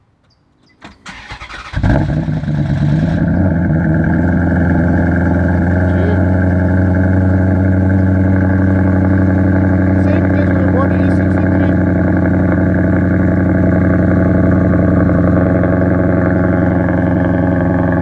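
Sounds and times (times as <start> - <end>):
car engine starting and idling: 0.7 - 18.0.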